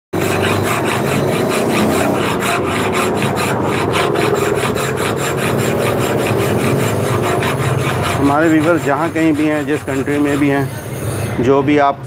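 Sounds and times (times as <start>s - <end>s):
hand file rasping on metal: 0.1s - 11.7s.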